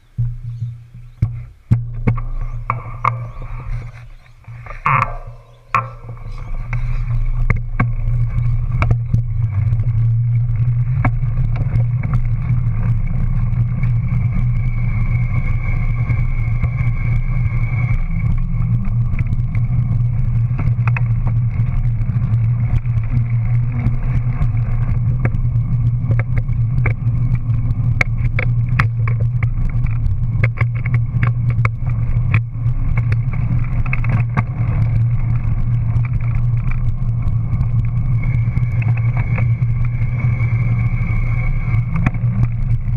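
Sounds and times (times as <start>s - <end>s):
bike tyres droning on pavement: 0.0s - 42.9s
sharp clicks and rattles: 0.0s - 42.9s.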